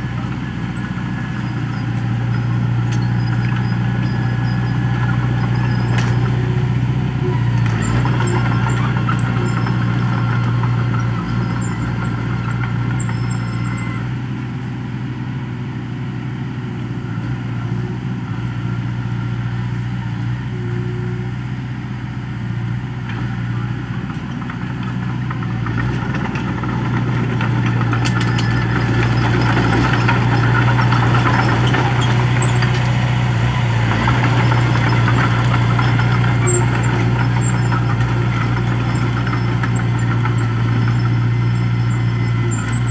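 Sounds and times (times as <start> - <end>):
bulldozer diesel engine: 0.0 - 42.9.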